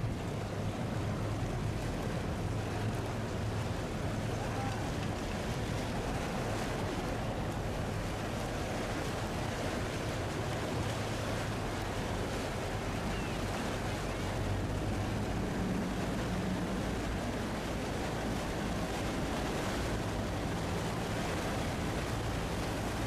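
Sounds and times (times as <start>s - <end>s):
boat engine droning: 0.0s - 23.0s
water washing past boat: 0.0s - 23.0s
wind buffeting microphone: 0.0s - 23.0s.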